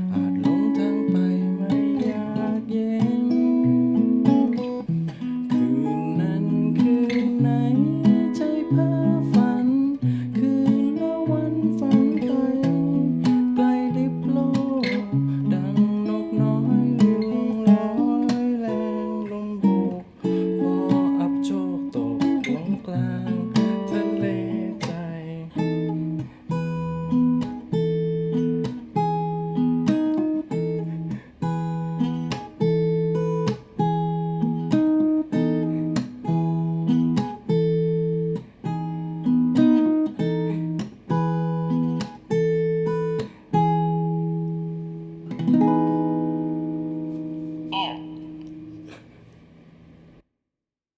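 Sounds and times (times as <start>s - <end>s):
acoustic guitar: 0.0s - 50.2s.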